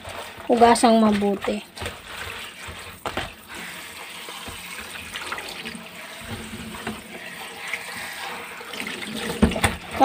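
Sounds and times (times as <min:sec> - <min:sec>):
leaves rubbed and rinsed by hand: 0:00.0 - 0:10.0
tap water running into sink: 0:00.0 - 0:10.0.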